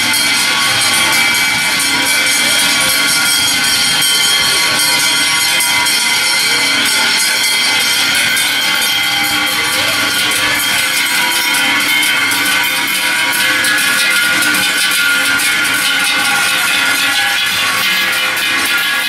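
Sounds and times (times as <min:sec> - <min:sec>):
cowbells jangling: 0:00.0 - 0:19.0.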